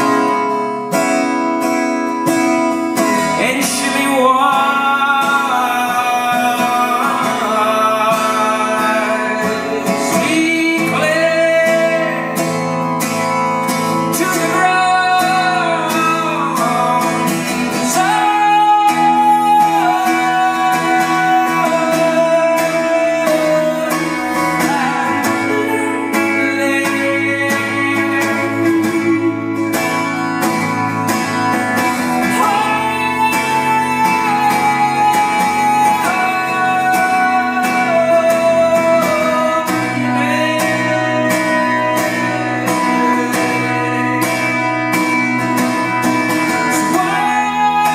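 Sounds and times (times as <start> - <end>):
man singing: 0.0 - 1.0, 2.8 - 47.9
acoustic guitar strumming: 0.0 - 47.9.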